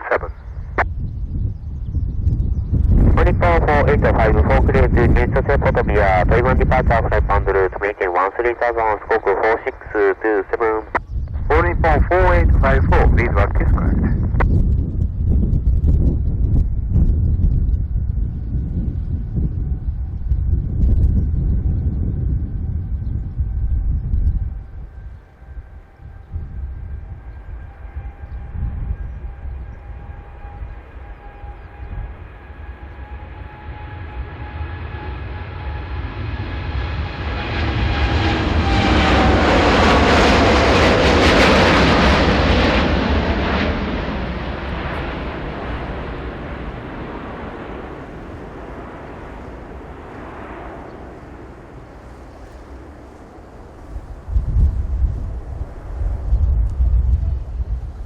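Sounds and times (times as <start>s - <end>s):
jet airliner engine whine: 0.0s - 58.0s
wind buffeting microphone: 0.2s - 7.8s, 10.9s - 35.8s, 37.0s - 58.0s.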